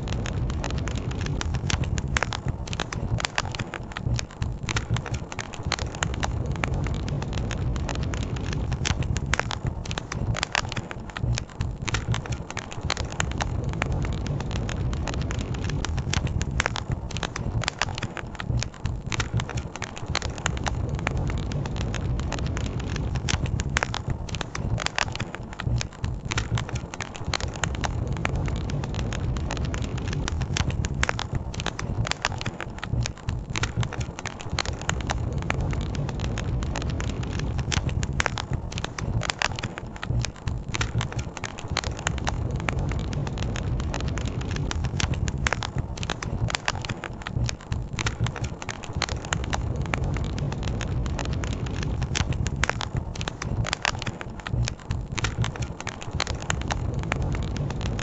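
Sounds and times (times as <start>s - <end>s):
steady low rumble: 0.0s - 58.0s
wood crackling and popping: 0.0s - 58.0s.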